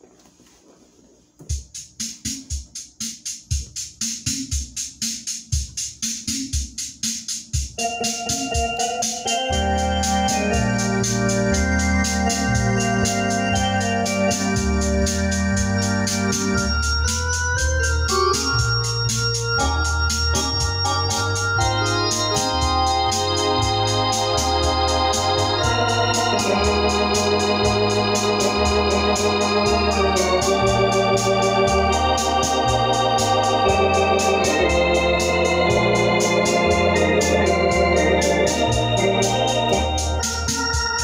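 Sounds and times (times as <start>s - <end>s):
organ rhythm ticks and thumps: 1.4s - 41.0s
held organ bass: 7.8s - 41.0s
sustained organ chords: 7.8s - 41.0s.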